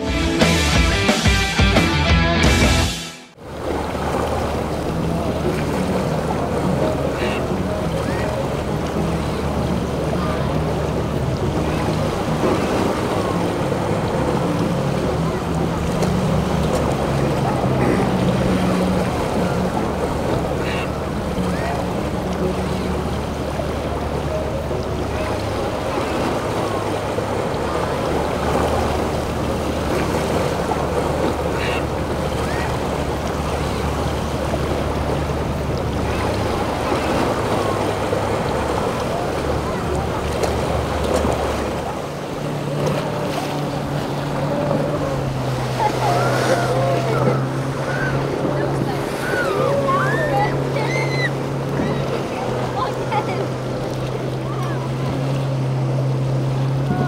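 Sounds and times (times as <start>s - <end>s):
boat engine running: 0.0s - 57.0s
waves rushing: 0.0s - 57.0s
wind: 0.0s - 57.0s.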